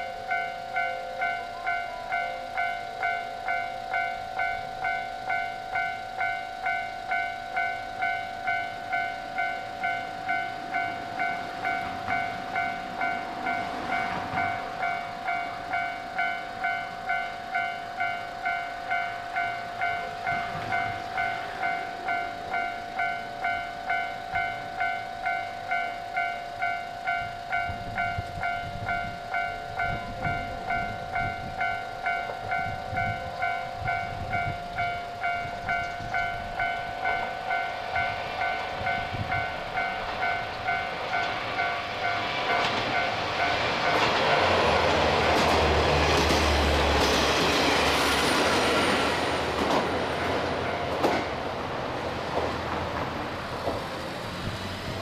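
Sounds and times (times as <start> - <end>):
level crossing bell dinging: 0.0 - 44.1.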